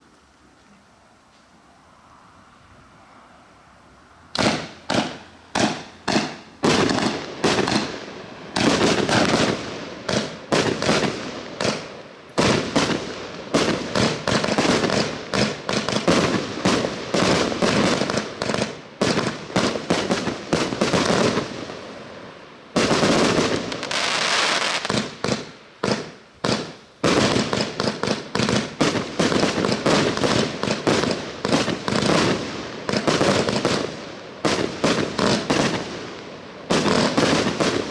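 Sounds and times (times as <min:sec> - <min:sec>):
fireworks shots and bursts: 0:04.4 - 0:37.9.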